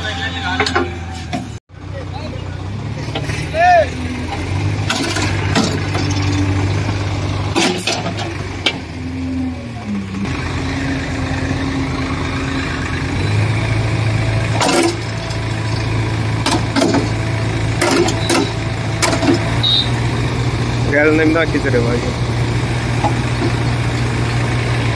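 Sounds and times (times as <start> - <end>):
heavy diesel engine under load: 0.0 - 24.9.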